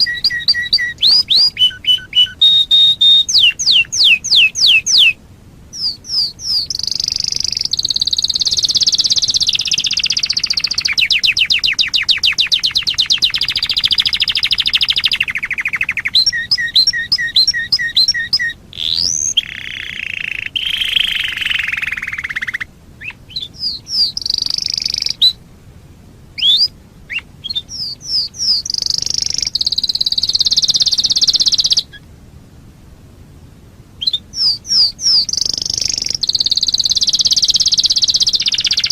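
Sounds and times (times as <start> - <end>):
canary singing trills: 0.0 - 25.4, 26.4 - 32.1, 34.0 - 38.9.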